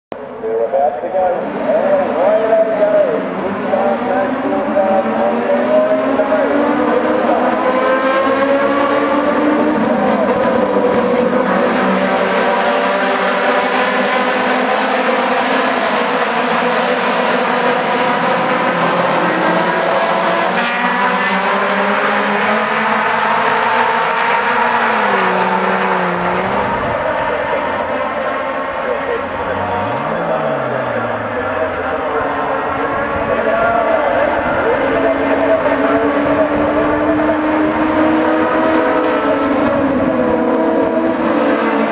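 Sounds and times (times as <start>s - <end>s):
racing car engines at high revs: 0.3s - 41.9s.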